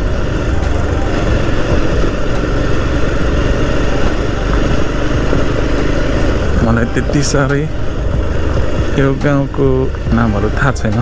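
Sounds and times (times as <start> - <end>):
road and wind rumble: 0.0 - 11.0
vehicle engine running: 0.0 - 11.0.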